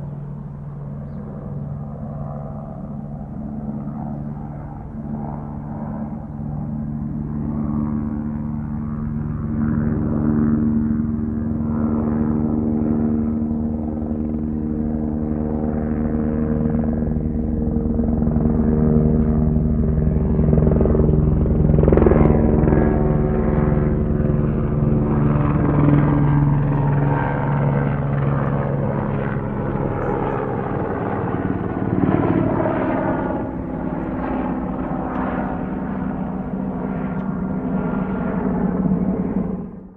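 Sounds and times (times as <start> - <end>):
helicopter engine drone: 0.0 - 39.9.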